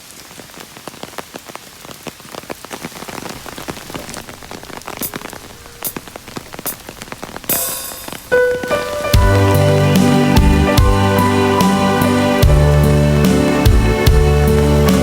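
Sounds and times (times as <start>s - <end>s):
rain falling: 0.0s - 15.0s
heavy raindrops tapping: 0.2s - 15.0s.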